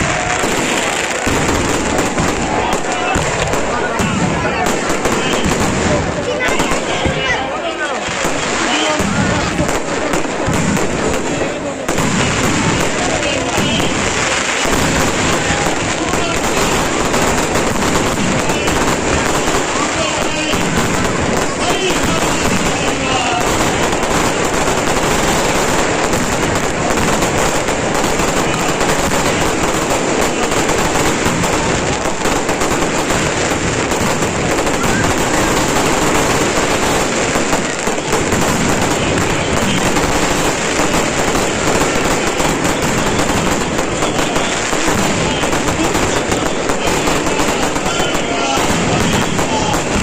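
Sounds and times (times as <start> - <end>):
fireworks crackling and banging: 0.0 - 50.0.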